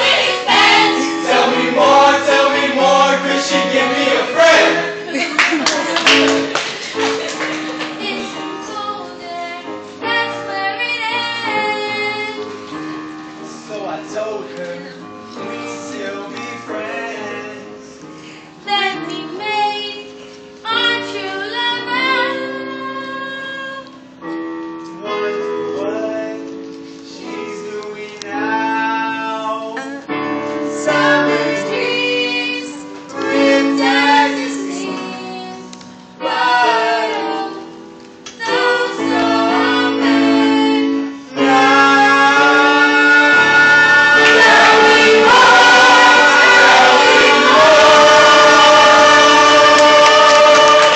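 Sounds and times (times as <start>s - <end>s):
instrumental accompaniment: 0.0s - 21.2s, 23.8s - 50.9s.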